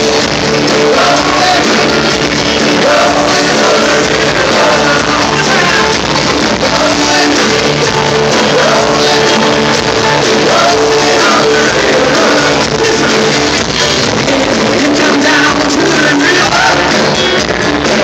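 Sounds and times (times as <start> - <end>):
drums: 0.0 - 18.0
electric guitar: 0.0 - 18.0
man singing into a microphone: 0.6 - 18.0.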